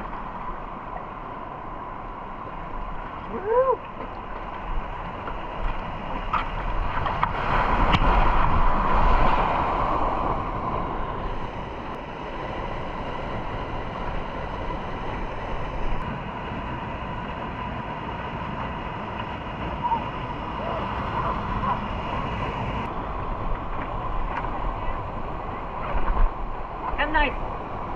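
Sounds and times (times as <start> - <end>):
whitewater rushing: 0.0 - 27.9.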